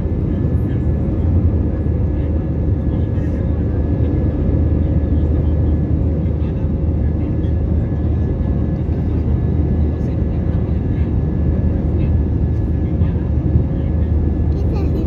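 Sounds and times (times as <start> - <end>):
jet engine and airflow rush: 0.0 - 15.0.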